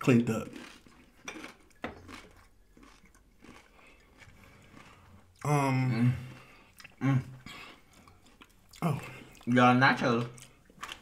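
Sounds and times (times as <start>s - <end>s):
crunches of chewing: 0.0s - 11.0s
person chewing food: 0.0s - 11.0s.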